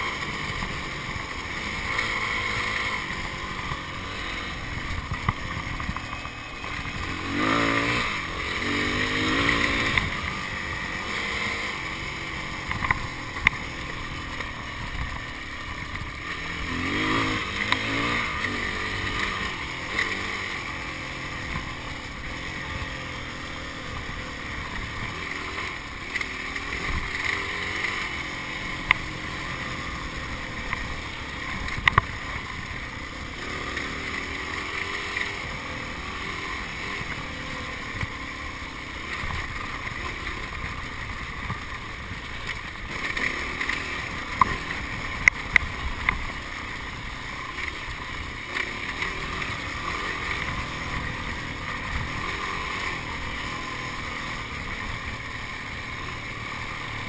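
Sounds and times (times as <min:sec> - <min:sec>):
motorcycle engine running under load: 0:00.0 - 0:57.0.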